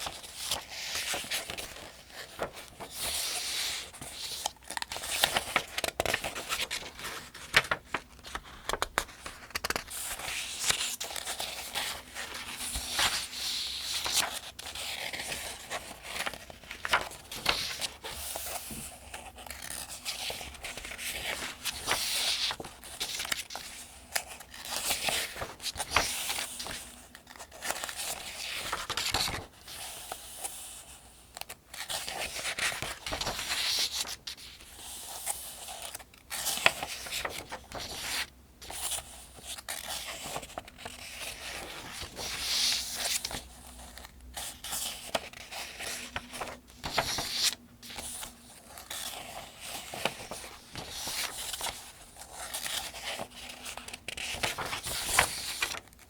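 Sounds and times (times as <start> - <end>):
pages being turned: 0.0 - 30.8, 31.4 - 56.0.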